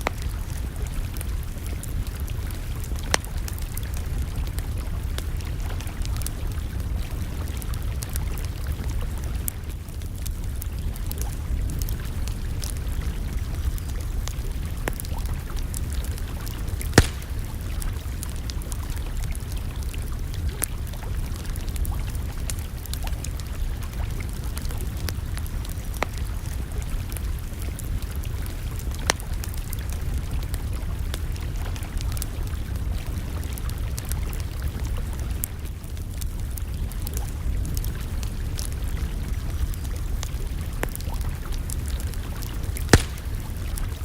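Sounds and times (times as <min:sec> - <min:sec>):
campfire crackling and popping: 0:00.0 - 0:44.0
low fire rumble: 0:00.0 - 0:44.0.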